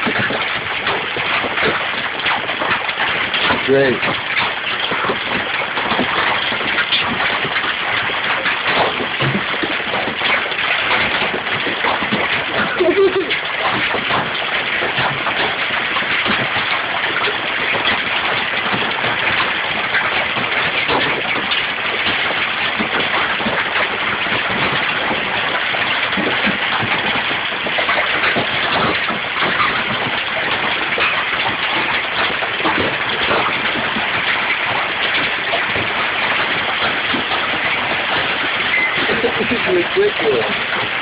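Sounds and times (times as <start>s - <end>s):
hail falling: 0.0s - 41.0s.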